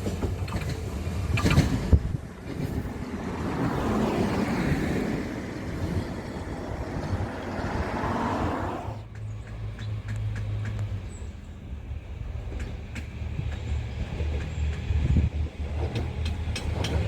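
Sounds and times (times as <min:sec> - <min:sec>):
passing vehicle rumbling: 0:00.0 - 0:17.0.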